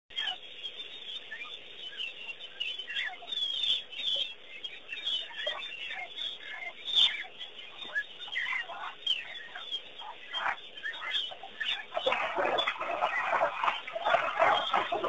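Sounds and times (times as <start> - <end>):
many birds chirping: 0.1 - 15.0.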